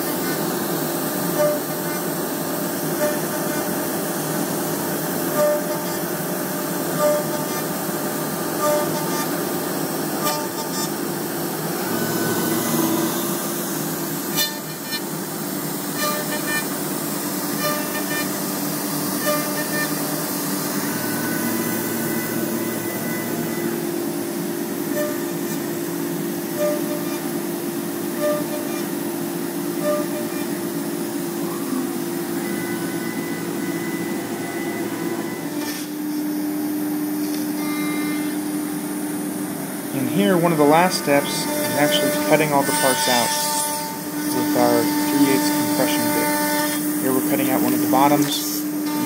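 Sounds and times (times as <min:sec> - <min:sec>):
router cutting wood: 0:00.0 - 0:36.1, 0:39.6 - 0:49.0
router spindle whine: 0:00.0 - 0:49.0.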